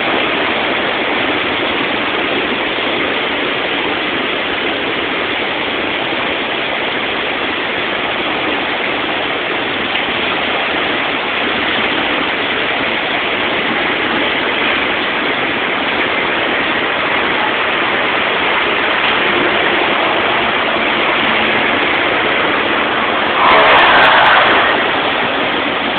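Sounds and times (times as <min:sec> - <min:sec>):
creek rushing over rocks: 0:00.0 - 0:25.9.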